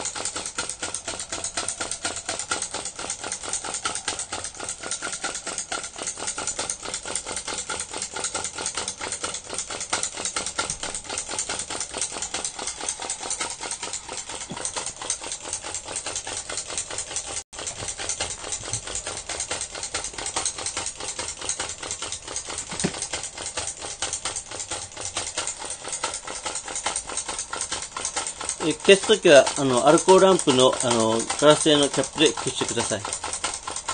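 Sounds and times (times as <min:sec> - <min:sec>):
small engine clattering: 0:00.0 - 0:33.9.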